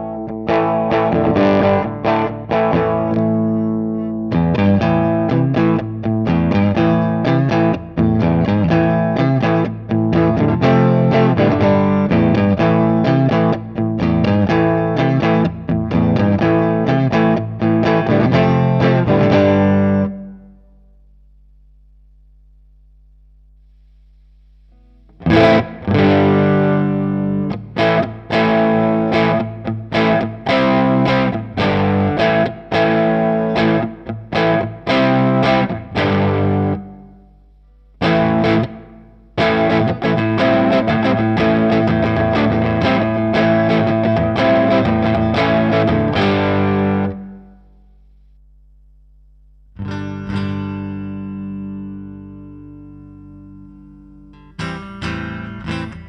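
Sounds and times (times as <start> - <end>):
electric guitar chords: 0.0 - 20.9, 24.7 - 48.0, 49.7 - 56.0.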